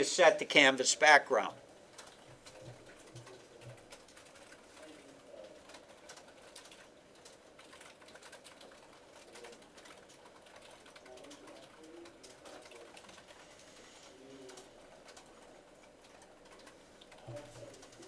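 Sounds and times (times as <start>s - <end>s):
keyboard typing clicks: 1.9s - 13.7s, 14.5s - 18.0s.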